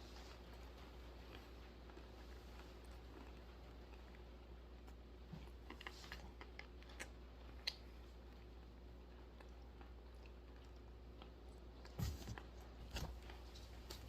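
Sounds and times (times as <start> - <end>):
almonds being chewed: 0.0 - 14.0.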